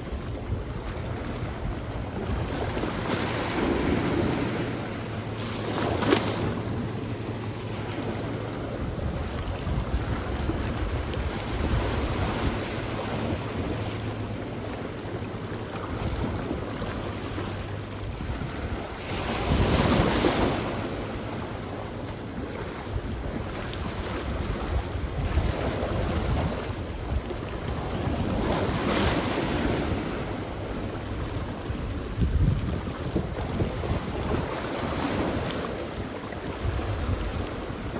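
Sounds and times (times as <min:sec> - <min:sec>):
sea waves washing onto shore: 0:00.0 - 0:37.9
wind rumbling on microphone: 0:00.0 - 0:37.9.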